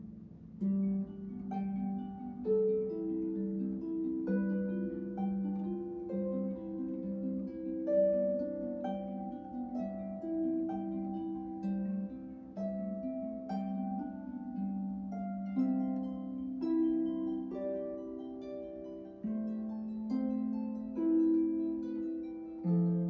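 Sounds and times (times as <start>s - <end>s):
solo harp playing: 0.0s - 23.0s.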